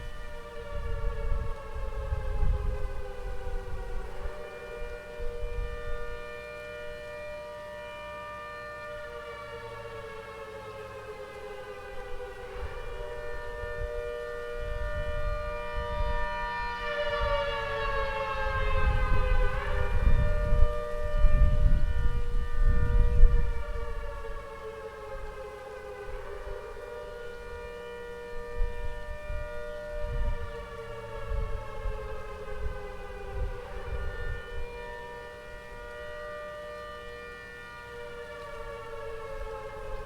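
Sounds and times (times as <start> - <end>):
distant warning siren: 0.0 - 40.0.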